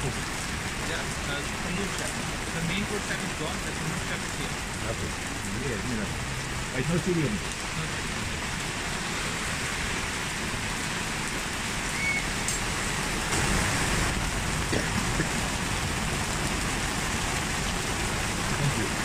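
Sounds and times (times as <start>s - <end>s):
heavy rain on pavement and cars: 0.0s - 19.0s.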